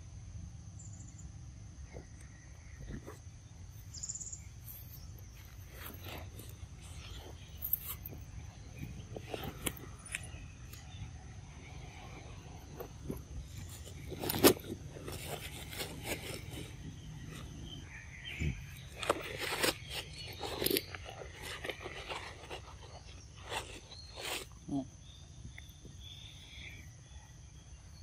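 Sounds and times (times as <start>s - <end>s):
rustles: 1.8s - 26.8s.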